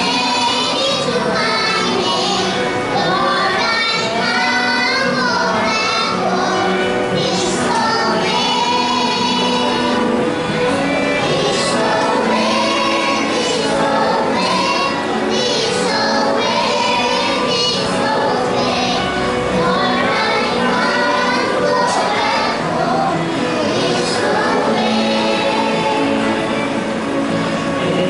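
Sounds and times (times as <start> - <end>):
children singing in chorus: 0.0 - 27.4.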